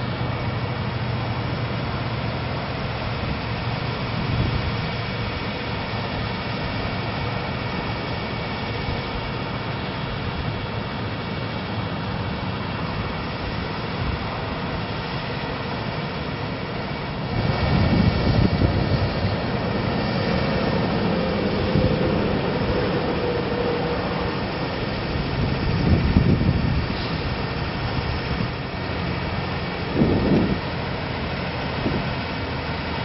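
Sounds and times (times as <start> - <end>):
diesel truck engine running: 0.0 - 33.0
steady hum: 0.0 - 33.0.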